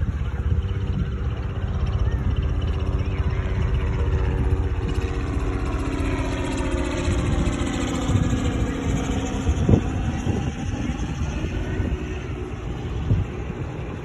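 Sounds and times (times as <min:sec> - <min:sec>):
engine drone: 0:00.0 - 0:14.0
wind buffeting microphone: 0:00.0 - 0:14.0.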